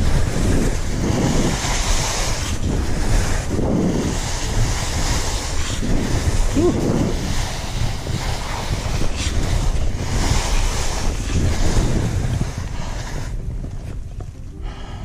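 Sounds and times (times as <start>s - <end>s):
skis scraping over snow: 0.0s - 15.0s
wind rushing over microphone: 0.0s - 15.0s.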